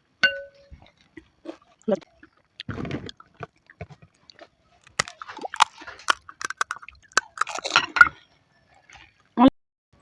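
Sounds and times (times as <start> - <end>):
crunchy chewing: 0.7 - 9.4.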